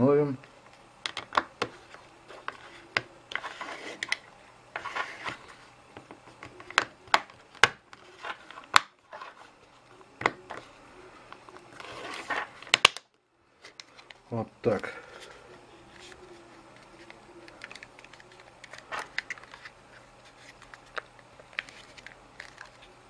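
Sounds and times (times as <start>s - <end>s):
plastic rubbing and scraping: 1.1s - 12.9s, 15.2s - 23.0s.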